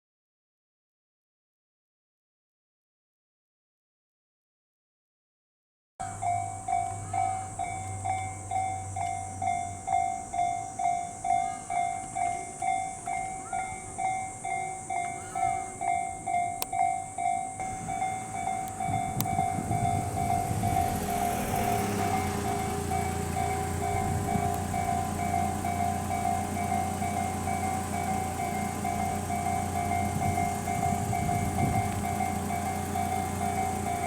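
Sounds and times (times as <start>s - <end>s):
level-crossing warning bell ringing: 6.0s - 34.0s
train rumbling: 6.2s - 34.0s.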